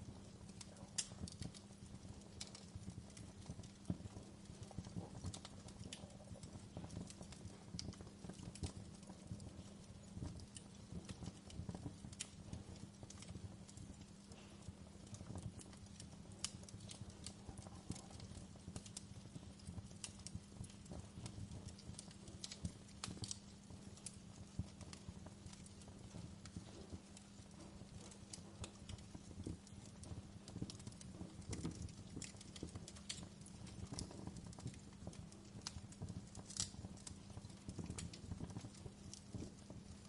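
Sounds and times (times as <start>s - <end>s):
campfire crackling: 0.0s - 40.0s.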